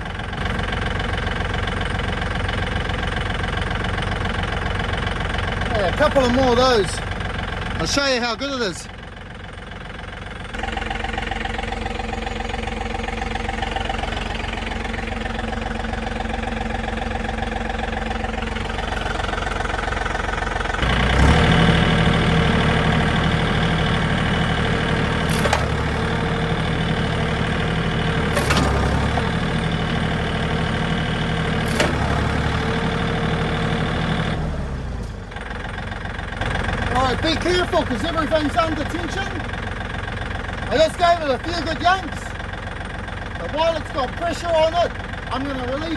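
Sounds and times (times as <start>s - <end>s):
tractor engine revving: 0.0s - 45.9s.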